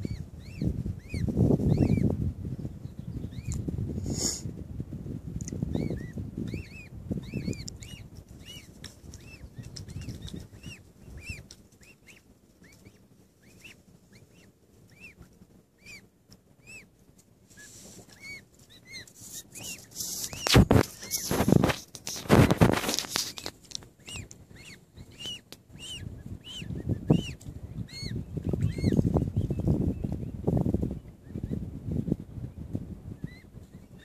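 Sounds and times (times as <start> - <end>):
cygnets peeping: 0.0 - 34.0.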